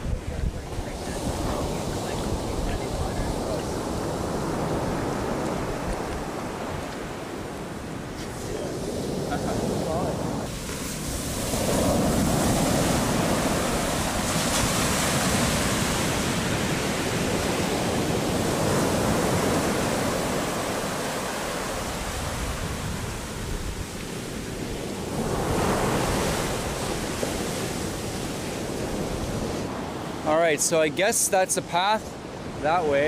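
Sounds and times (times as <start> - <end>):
wind buffeting microphone: 0.0 - 30.2
ocean surf breaking: 0.0 - 33.0.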